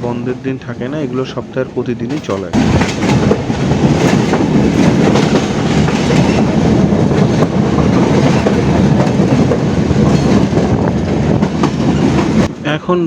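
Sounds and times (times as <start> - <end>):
train wheels on rails: 2.1 - 12.8.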